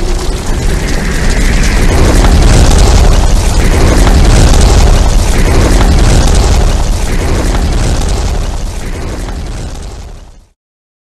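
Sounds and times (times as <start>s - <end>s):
explosion deep rumble with crackling: 0.0s - 10.6s.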